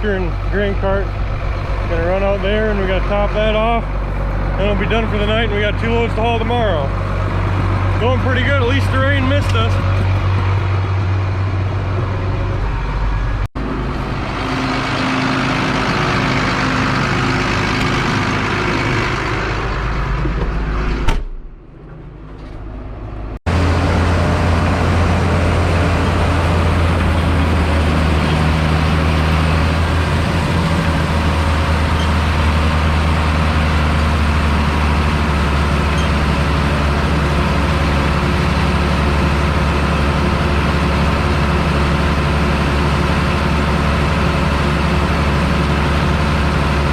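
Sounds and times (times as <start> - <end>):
heavy vehicle engine humming: 0.0 - 21.1, 21.7 - 46.9.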